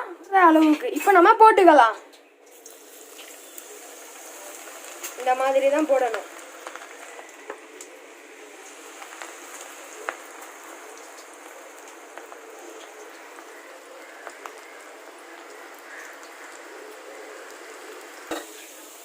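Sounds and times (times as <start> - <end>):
oil popping and crackling: 0.2 - 19.0
food frying in hot oil: 2.4 - 19.0.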